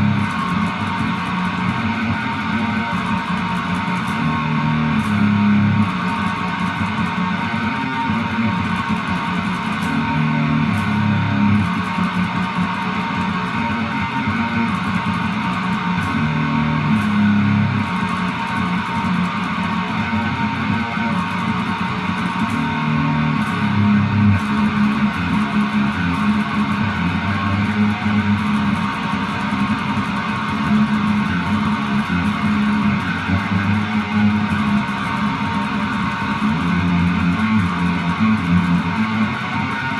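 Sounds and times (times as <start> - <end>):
guitar music with bass line: 0.0 - 39.9.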